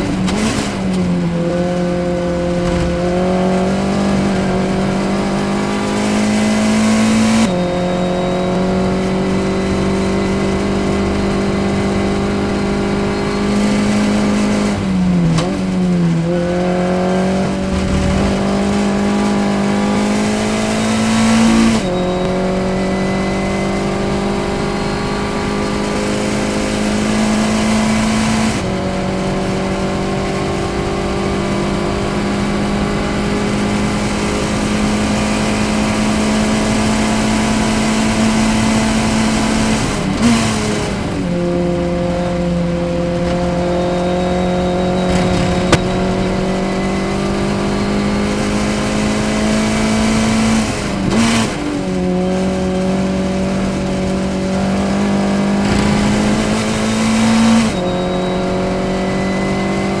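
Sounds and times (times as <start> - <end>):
race car engine at high revs: 0.0 - 60.0.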